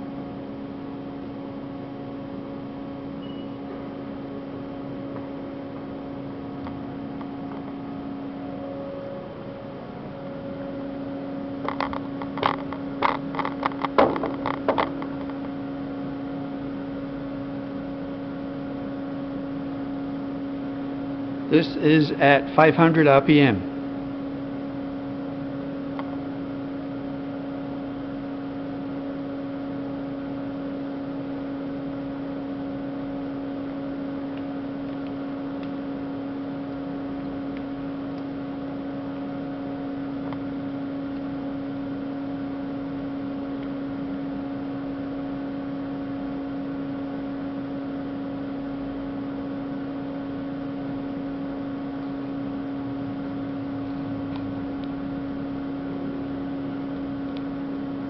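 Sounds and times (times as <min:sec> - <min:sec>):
machine spindle hum: 0:00.0 - 0:58.0.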